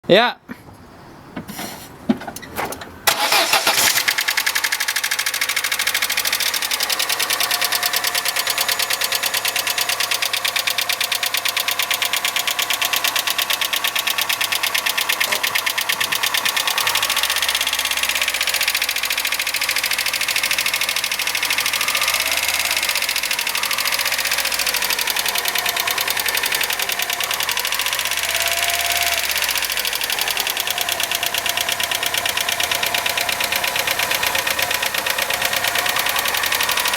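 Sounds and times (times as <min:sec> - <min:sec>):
car engine starting and idling: 0:00.7 - 0:36.9
rapid valvetrain ticking: 0:03.1 - 0:36.9.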